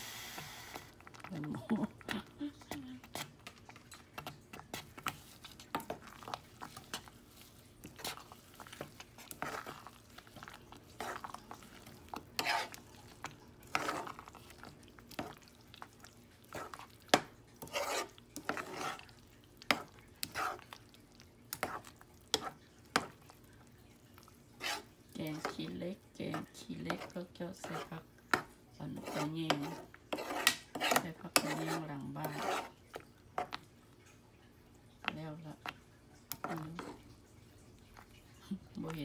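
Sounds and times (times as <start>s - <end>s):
spoon stirring in a metal saucepan: 0.3s - 39.0s.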